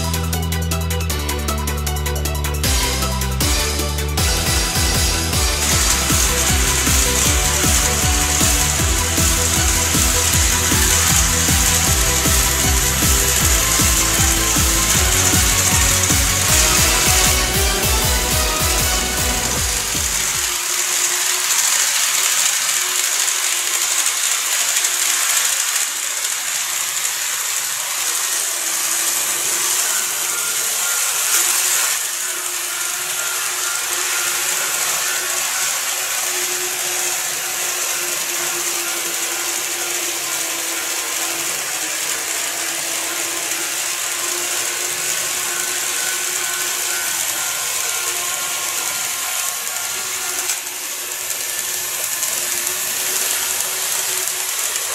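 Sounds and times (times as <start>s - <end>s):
model train whirring and rattling: 0.0s - 54.9s.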